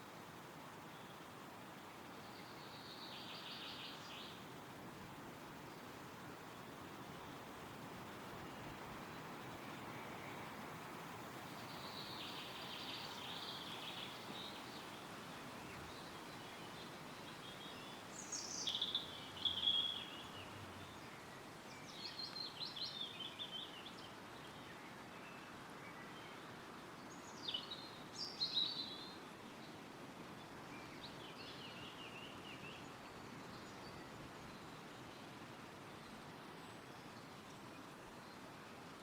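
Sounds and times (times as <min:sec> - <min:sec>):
songbirds singing: 0:00.0 - 0:38.6
wind rustling trees: 0:00.0 - 0:39.0.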